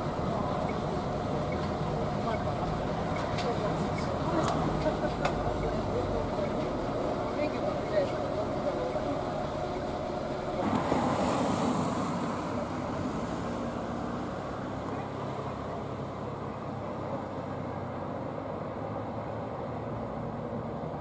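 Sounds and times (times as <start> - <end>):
trucks driving along a street: 0.0 - 21.0.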